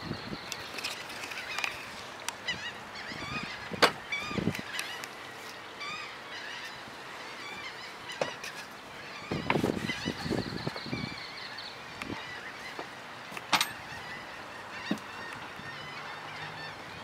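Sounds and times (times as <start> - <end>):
birds calling: 0.0 - 17.0
steady background noise: 0.0 - 17.0.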